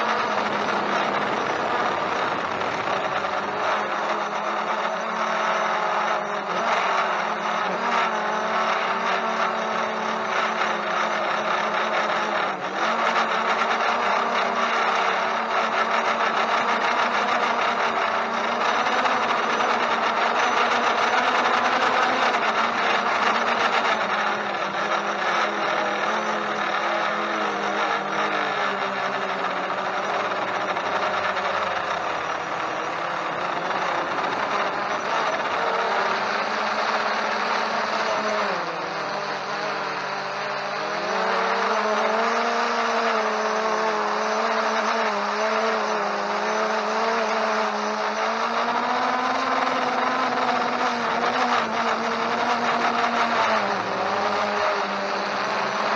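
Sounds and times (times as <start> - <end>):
drone propellers whirring: 0.0 - 55.9.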